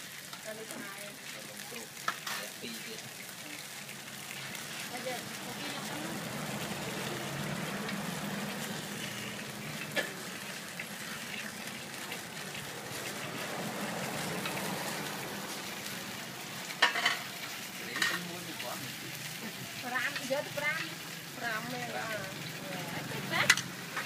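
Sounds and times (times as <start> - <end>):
batter sizzling in a pan: 0.0 - 24.0.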